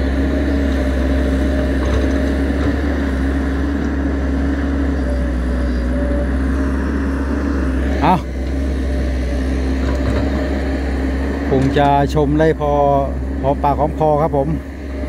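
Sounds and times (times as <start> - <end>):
excavator bucket digging earth: 0.0 - 15.0
excavator engine and hydraulics: 0.0 - 15.0.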